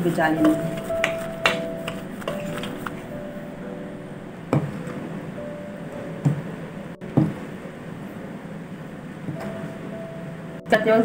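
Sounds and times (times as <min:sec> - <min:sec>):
faint background tones: 0:00.0 - 0:11.0.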